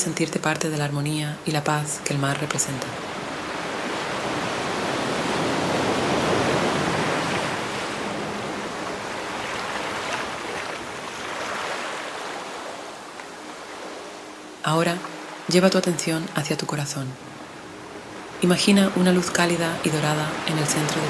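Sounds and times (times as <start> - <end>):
ocean waves washing onto shore: 0.0 - 21.0.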